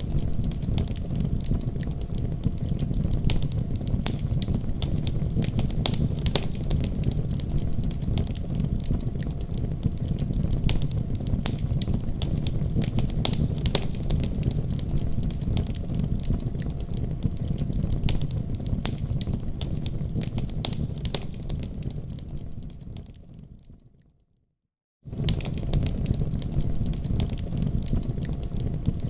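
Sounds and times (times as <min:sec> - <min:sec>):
fire crackling and popping: 0:00.0 - 0:24.0, 0:25.1 - 0:29.0
low rumble of flames: 0:00.0 - 0:24.0, 0:25.0 - 0:29.0.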